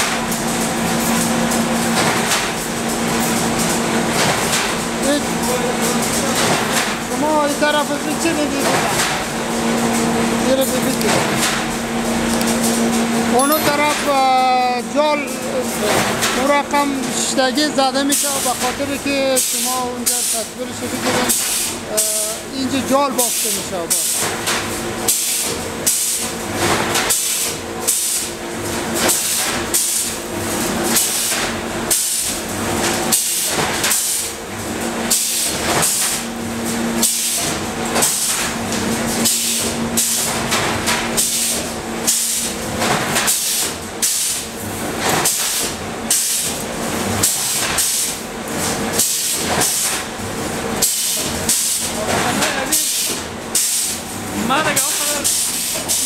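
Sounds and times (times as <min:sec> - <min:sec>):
steady machine hiss and hum: 0:00.0 - 0:56.0.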